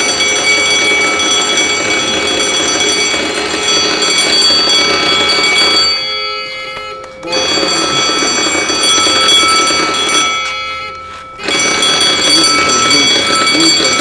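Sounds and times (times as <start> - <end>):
fire alarm bell ringing: 0.0 - 14.0.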